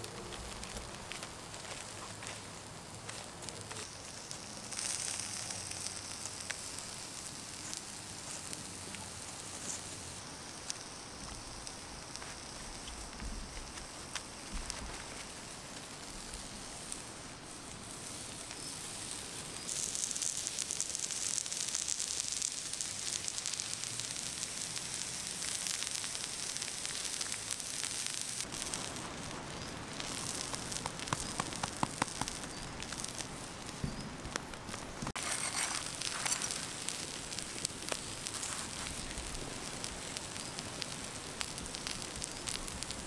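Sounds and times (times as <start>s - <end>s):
campfire crackling and hissing: 0.0s - 43.0s
fire pops: 0.0s - 43.0s.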